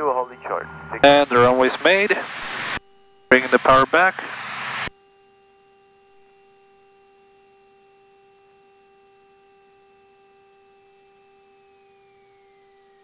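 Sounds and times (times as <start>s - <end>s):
faint hum of held tones: 0.0s - 13.0s.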